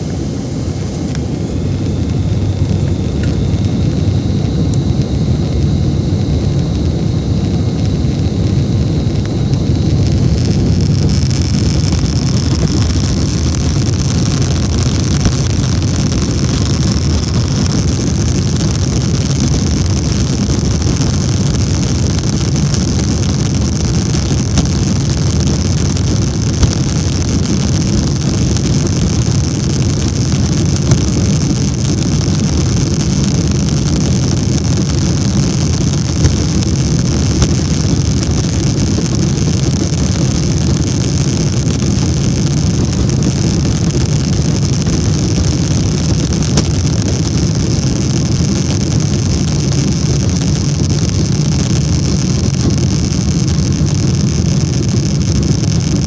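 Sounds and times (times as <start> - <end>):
high engine whine: 0.0 - 56.0
jet engines rumbling: 0.0 - 56.0.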